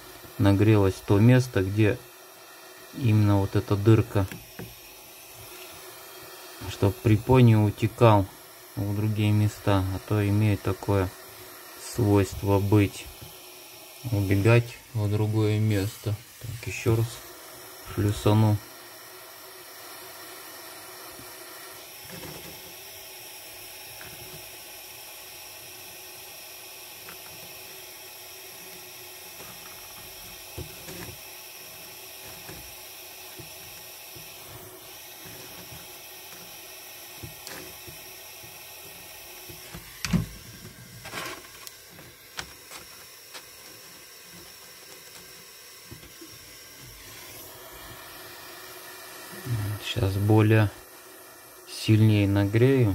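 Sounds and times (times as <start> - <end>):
gas torch flame hissing: 0.0 - 52.9.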